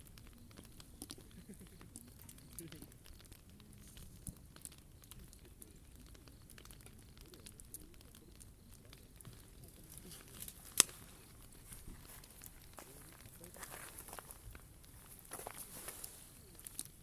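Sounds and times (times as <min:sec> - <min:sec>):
loud snap of fire: 0:00.0 - 0:17.0
wood fire crackling: 0:00.0 - 0:17.0.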